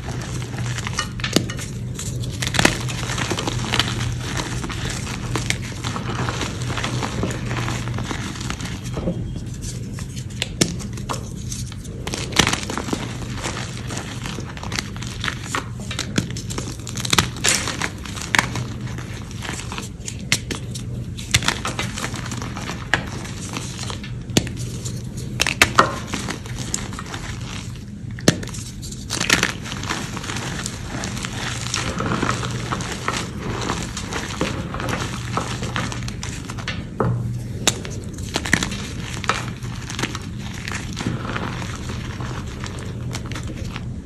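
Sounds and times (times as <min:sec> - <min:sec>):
chalk crunching by hand: 0:00.0 - 0:36.7.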